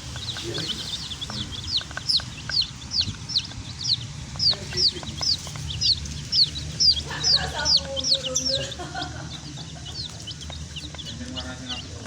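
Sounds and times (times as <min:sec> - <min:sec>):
baby chicks peeping: 0:00.0 - 0:12.0
low background rumble: 0:00.0 - 0:12.0.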